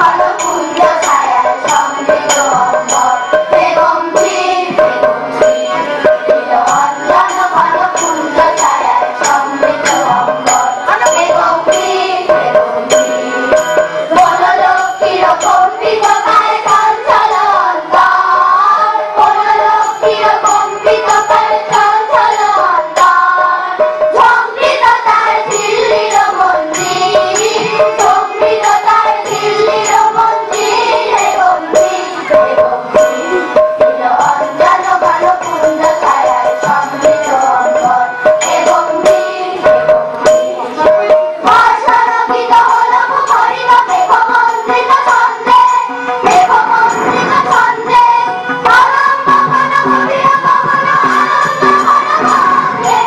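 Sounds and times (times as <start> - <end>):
song with steady drum beat: 0.0 - 53.0.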